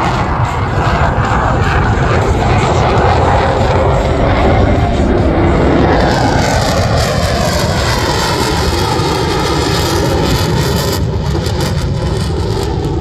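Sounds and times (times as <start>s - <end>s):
jet engine flying past: 0.0s - 13.0s.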